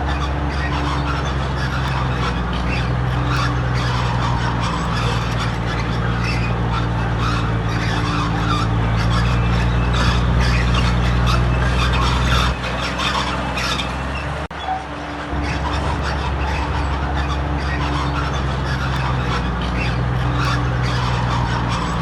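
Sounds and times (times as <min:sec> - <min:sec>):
diesel engine running under load: 0:00.0 - 0:22.0
metal grating noise: 0:00.0 - 0:22.0.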